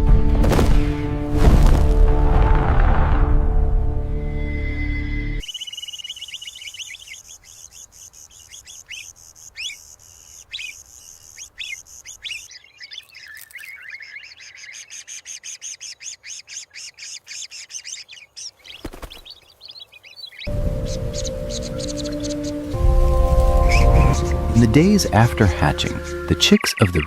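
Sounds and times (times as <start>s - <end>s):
small birds chirping rapidly: 4.5s - 27.0s.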